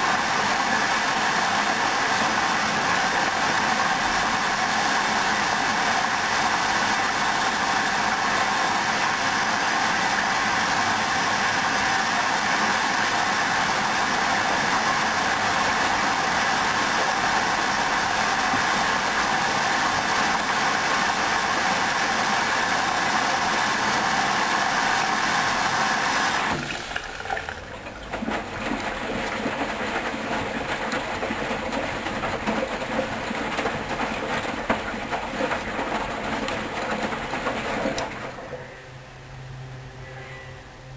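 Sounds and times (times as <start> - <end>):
washing machine water intake hiss: 0.0 - 38.6
drum sloshing and clunking: 0.0 - 38.7.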